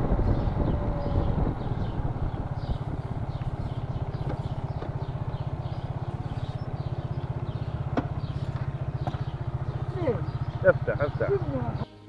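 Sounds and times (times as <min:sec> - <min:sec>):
motorcycle engine running slowly: 0:00.0 - 0:11.9.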